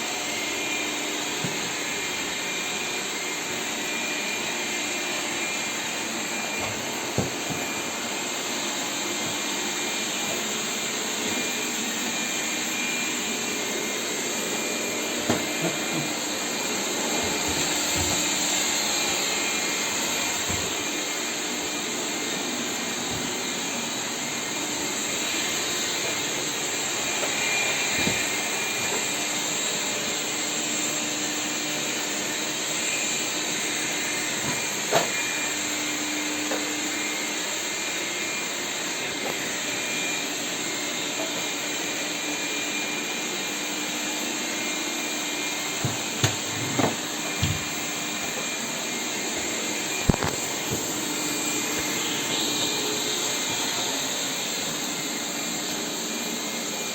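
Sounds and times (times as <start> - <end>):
robot vacuum whirring hiss: 0.0 - 56.9.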